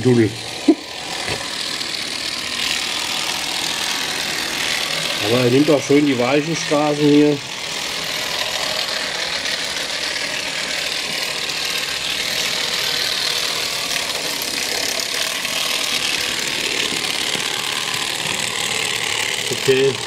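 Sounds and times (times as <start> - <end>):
rattling buzz of track cleaner: 0.0 - 20.0.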